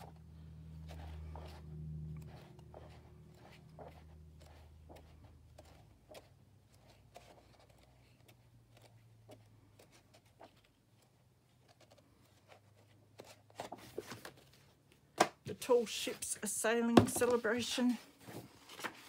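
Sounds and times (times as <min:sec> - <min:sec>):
low steady hum: 0:00.0 - 0:18.8
book pages turning: 0:00.0 - 0:19.0.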